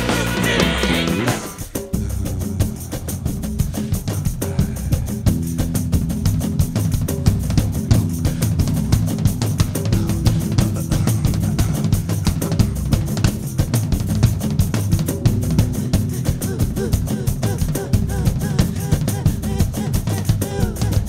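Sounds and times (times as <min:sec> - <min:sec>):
instrumental band music: 0:00.0 - 0:02.0, 0:03.2 - 0:21.0
drum kit beat: 0:00.0 - 0:21.0.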